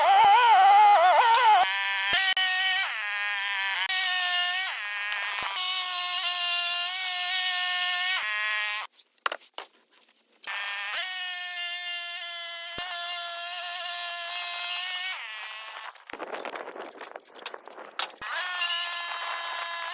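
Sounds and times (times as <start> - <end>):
gas saw cutting wood: 0.0 - 8.9, 10.5 - 16.0, 18.0 - 19.9.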